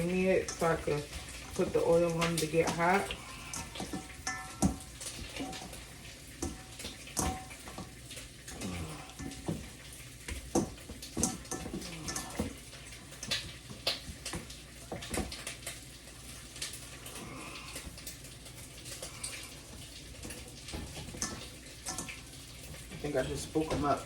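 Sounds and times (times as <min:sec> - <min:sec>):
steady watery hiss: 0:00.0 - 0:24.0.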